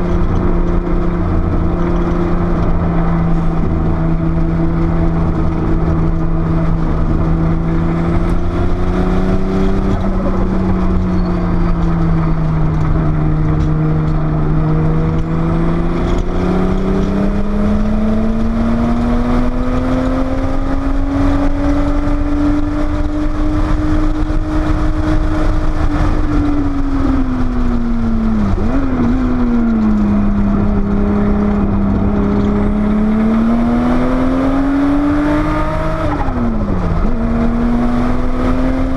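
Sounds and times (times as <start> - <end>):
car engine running hard: 0.0 - 38.9
wind and road noise: 0.0 - 38.9.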